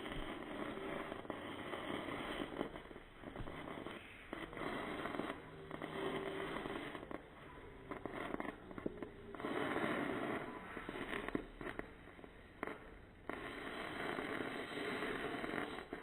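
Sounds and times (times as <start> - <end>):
fireworks crackling and popping: 0.0 - 16.0
fireworks hissing: 0.0 - 16.0.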